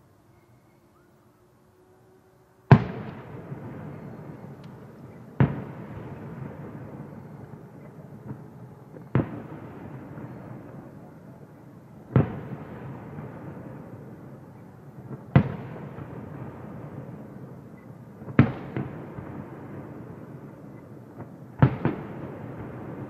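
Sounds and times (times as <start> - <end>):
firework shells booming: 2.7 - 14.3, 15.0 - 23.0.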